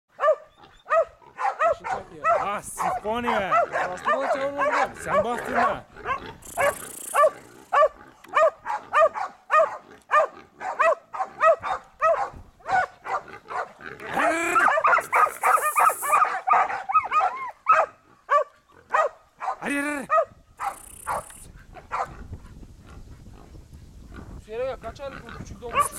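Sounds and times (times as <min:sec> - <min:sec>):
dog barking: 0:00.2 - 0:22.2.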